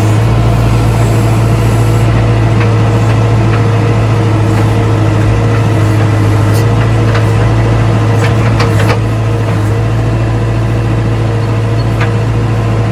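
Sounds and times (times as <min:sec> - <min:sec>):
backhoe clanking: 0:00.0 - 0:12.9
diesel engine running: 0:00.0 - 0:12.9.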